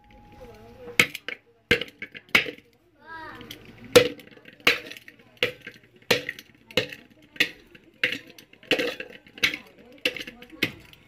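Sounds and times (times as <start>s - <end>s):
brick pounded in metal pot: 0.9s - 2.7s, 3.6s - 11.0s.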